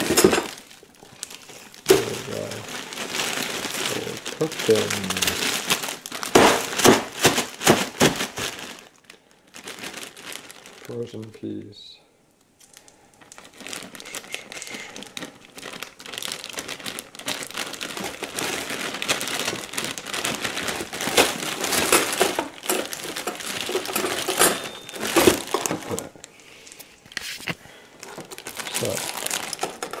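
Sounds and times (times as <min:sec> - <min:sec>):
plastic bag crinkling: 0:00.0 - 0:11.6, 0:12.6 - 0:30.0.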